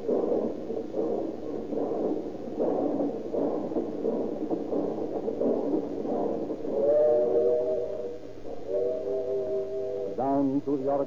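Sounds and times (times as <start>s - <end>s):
steam train chugging: 0.0s - 11.0s.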